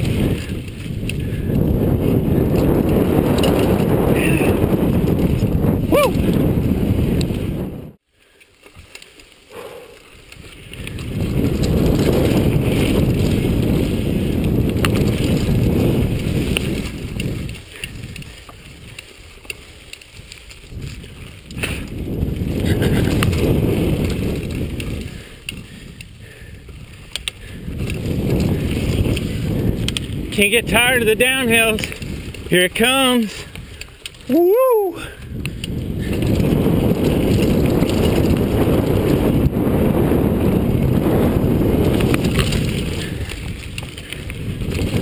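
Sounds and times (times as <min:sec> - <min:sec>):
bike clacking over bumps: 0:00.0 - 0:07.4, 0:08.6 - 0:34.3, 0:35.2 - 0:45.0
wind buffeting microphone: 0:00.0 - 0:08.0, 0:09.5 - 0:45.0
bike tyres rumbling on dirt: 0:00.0 - 0:45.0.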